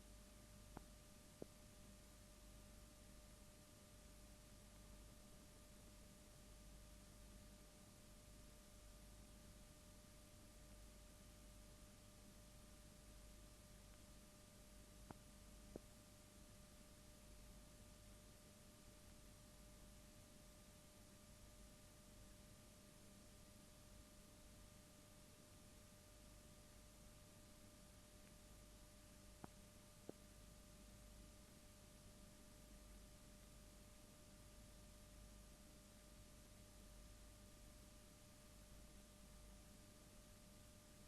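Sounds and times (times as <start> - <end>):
faint hum and hiss: 0.0 - 41.0.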